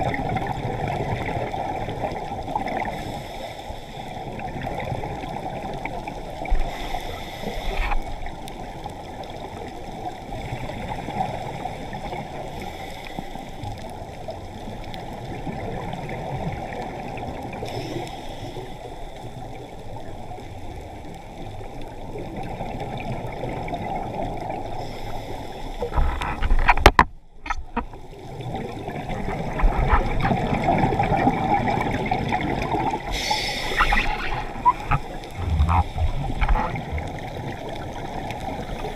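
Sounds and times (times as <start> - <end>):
muffled underwater rushing water: 0.0 - 38.9.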